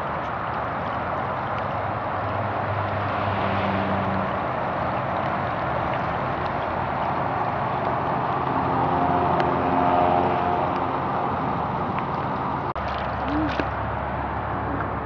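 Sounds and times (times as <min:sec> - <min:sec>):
outdoor background noise: 0:00.0 - 0:15.0
vehicle passing: 0:00.0 - 0:15.0.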